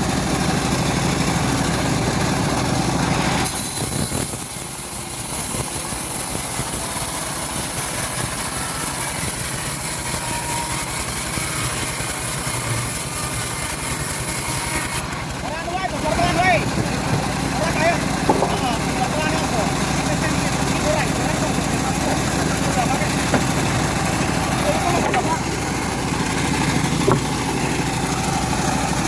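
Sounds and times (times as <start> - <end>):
bandsaw sawmill engine drone: 0.0 - 29.0
saw cutting wood hiss: 2.6 - 29.0.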